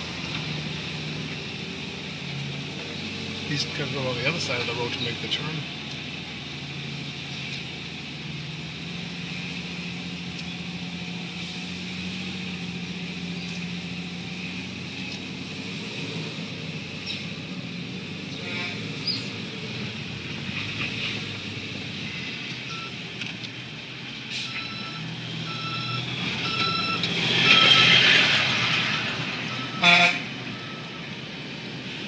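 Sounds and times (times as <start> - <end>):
car engine hum: 0.0 - 32.0
tyre and road noise: 0.0 - 32.0.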